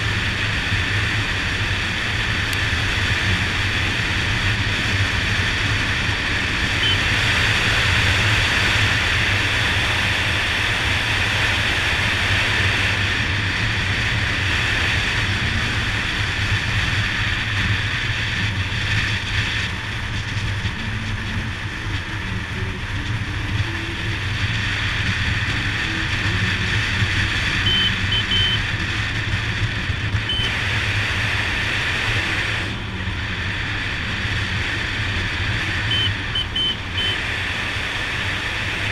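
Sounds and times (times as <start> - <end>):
motorcycle engine and tyre noise: 0.0 - 38.9
wind rush on microphone: 0.0 - 38.9.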